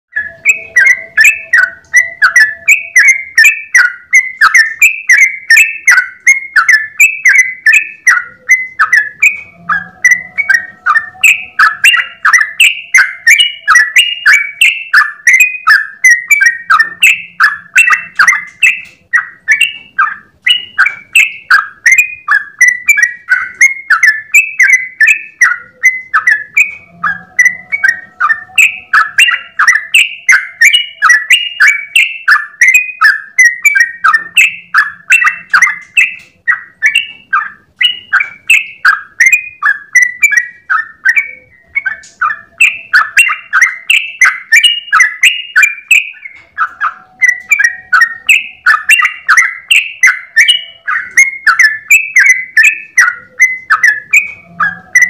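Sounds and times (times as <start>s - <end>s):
bulbul singing bubbly notes: 0.1s - 55.0s.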